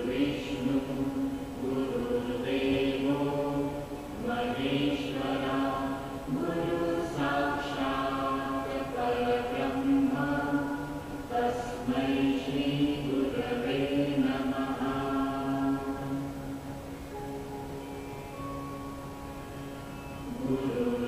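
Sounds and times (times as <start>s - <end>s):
voices chanting a mantra: 0.0s - 16.8s, 20.2s - 21.0s.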